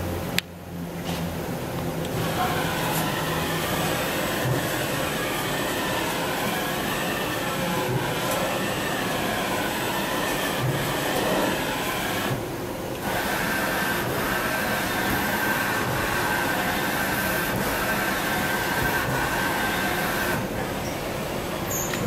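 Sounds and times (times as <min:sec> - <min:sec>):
machine whirr and rumble: 0:00.0 - 0:22.0.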